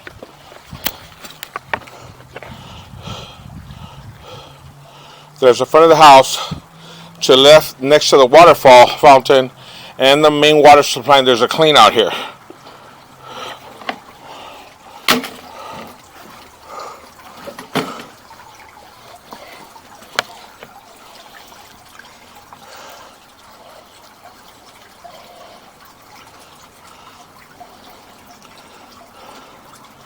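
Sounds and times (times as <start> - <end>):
fountain water trickling: 0.0 - 30.0.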